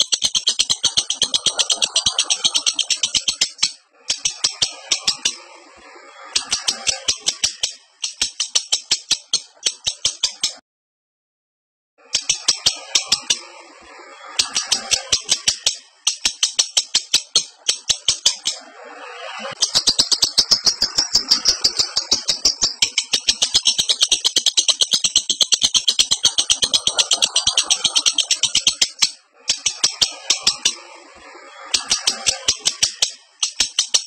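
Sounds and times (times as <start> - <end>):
lovebird chattering: 0.0 - 5.4, 6.3 - 10.6, 12.1 - 13.5, 14.3 - 30.8, 31.7 - 34.0.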